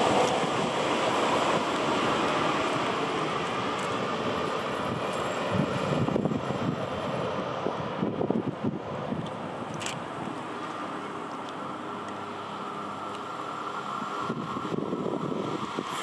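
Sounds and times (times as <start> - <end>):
train rolling rumble and hiss: 0.0 - 16.0.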